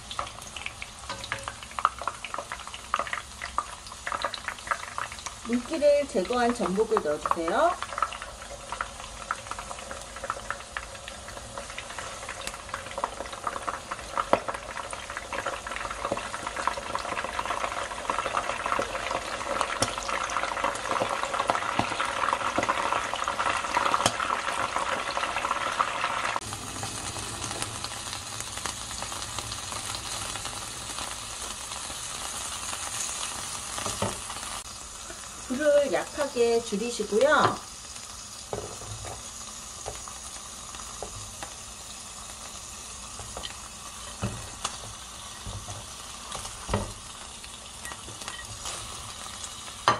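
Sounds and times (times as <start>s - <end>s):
food deep-frying in hot oil: 0.0s - 49.9s
food sizzling in a frying pan: 0.0s - 49.9s.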